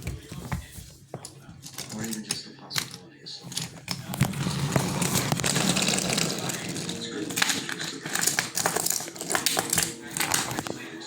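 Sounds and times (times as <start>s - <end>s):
plastic clicks and knocks: 0.0s - 10.8s
toy train clattering: 0.5s - 10.8s.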